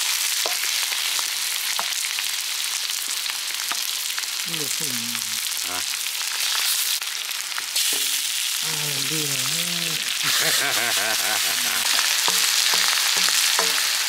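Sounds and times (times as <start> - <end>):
curry sizzling in a hot pan: 0.0 - 14.0.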